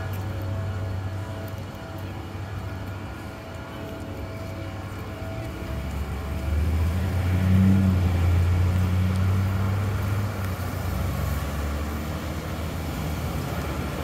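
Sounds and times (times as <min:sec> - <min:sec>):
traffic noise: 0:00.0 - 0:14.0
vehicle engine rumbling: 0:00.0 - 0:14.0.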